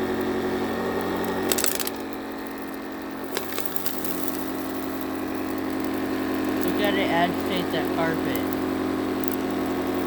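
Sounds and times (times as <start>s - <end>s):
litter crackling and rattling: 1.2s - 10.0s.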